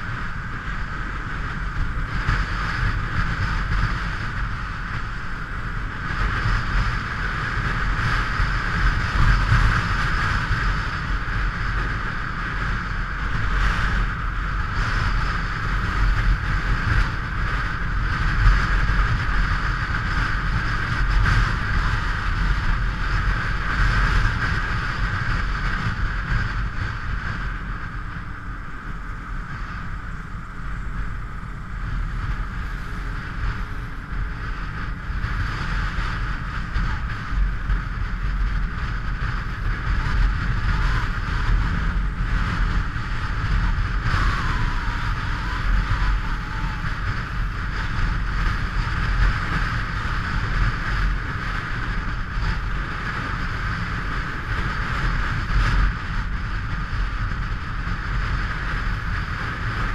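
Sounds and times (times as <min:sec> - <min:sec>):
motorcycle engine drone: 0:00.0 - 0:59.9
wind rush on microphone: 0:00.0 - 0:59.9.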